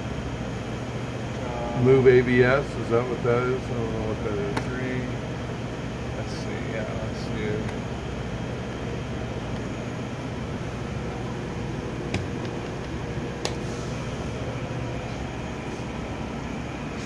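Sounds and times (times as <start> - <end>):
lathe humming: 0.0 - 17.0.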